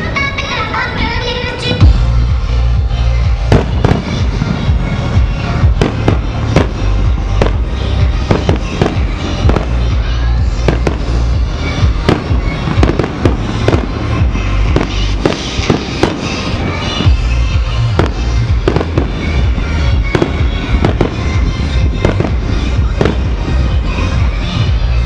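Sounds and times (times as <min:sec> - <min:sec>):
fireworks bangs and crackles: 0:01.8 - 0:25.0.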